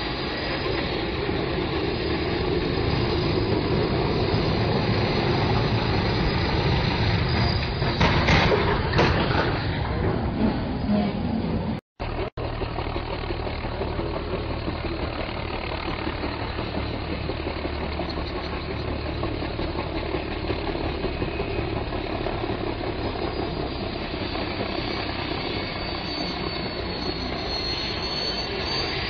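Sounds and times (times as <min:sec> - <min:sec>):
helicopter flying overhead: 0:00.0 - 0:09.0, 0:09.6 - 0:29.0.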